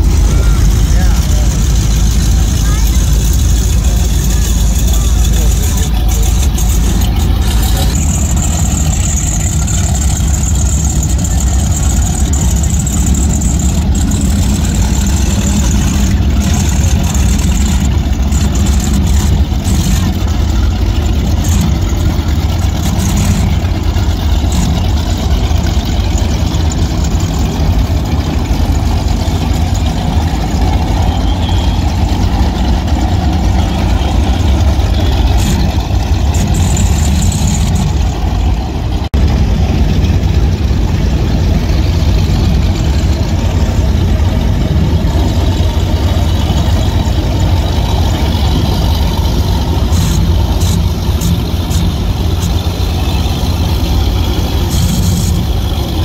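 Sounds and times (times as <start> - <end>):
powerboat engines idling: 0.0 - 56.0.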